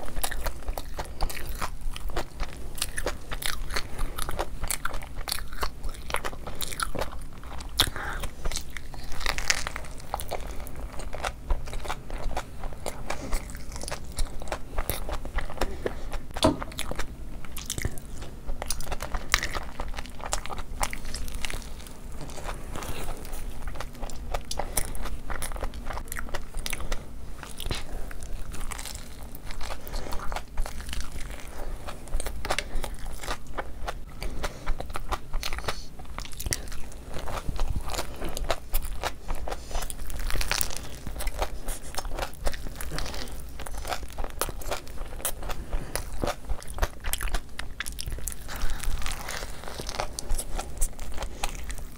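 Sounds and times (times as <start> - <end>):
chewing crispy food: 0.0 - 51.9.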